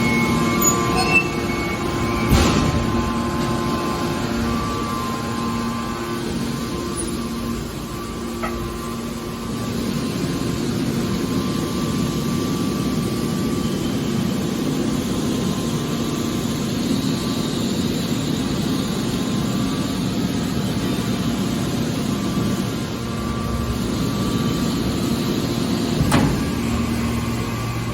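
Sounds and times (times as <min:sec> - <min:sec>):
hydraulic baler machine hum: 0:00.0 - 0:27.9.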